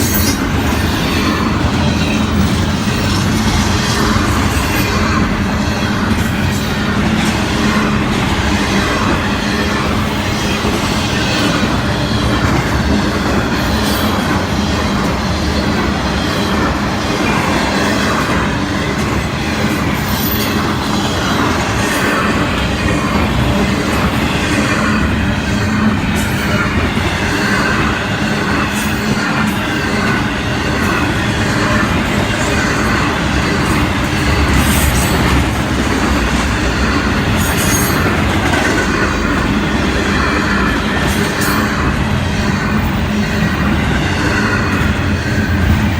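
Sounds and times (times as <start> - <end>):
train wheels rumbling on rail: 0.0 - 45.9.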